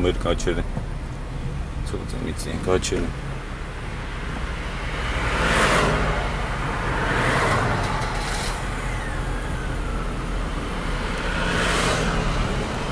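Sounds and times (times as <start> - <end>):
tyre and road noise: 0.0 - 12.9.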